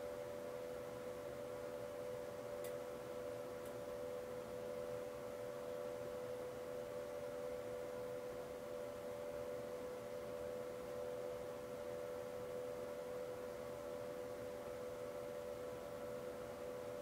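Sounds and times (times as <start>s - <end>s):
steady two-tone hum: 0.0s - 17.0s.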